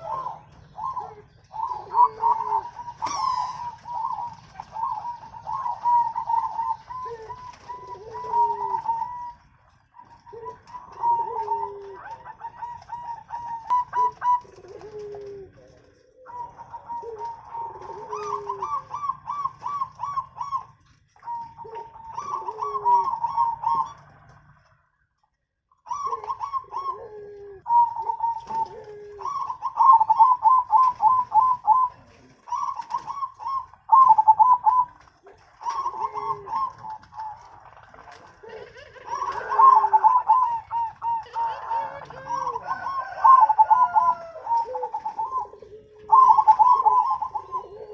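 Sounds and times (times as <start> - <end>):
doves cooing: 0.0 - 25.0, 25.7 - 47.9.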